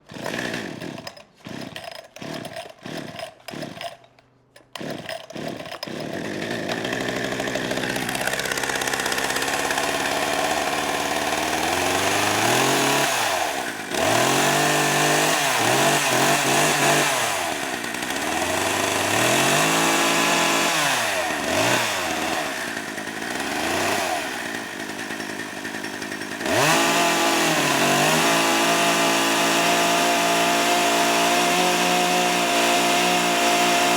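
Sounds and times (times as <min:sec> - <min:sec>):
chainsaw engine revving: 0:00.0 - 0:04.1, 0:04.7 - 0:33.9.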